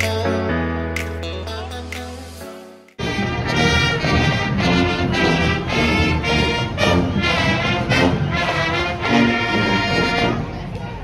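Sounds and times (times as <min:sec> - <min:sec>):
brass marching band playing: 0:00.0 - 0:10.7.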